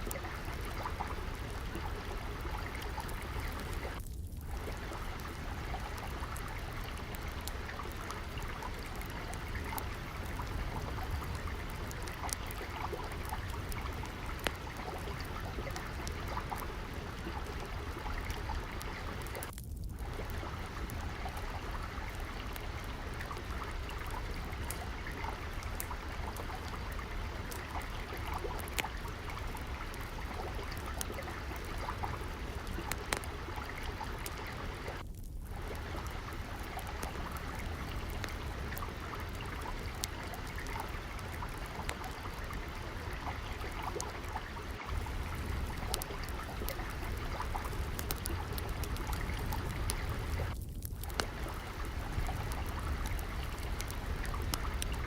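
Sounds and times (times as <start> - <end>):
trickling water: 0.0 - 55.0
wood fire crackling: 0.0 - 55.0.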